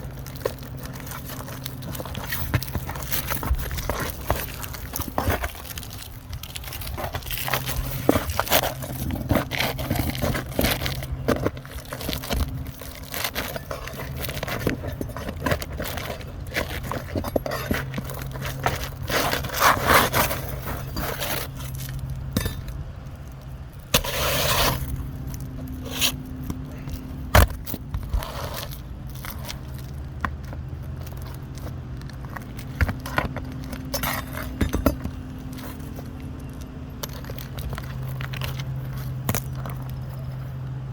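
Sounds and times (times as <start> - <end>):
scraping clicking and clinking: 0.0 - 40.8
steady low hum: 0.0 - 40.9.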